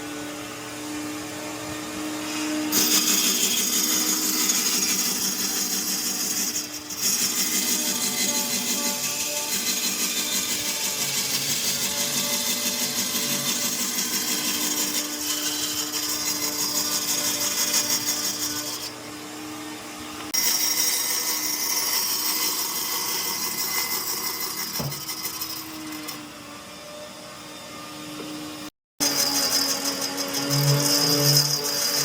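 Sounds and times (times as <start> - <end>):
power tool whining on wood: 0.0 - 32.0.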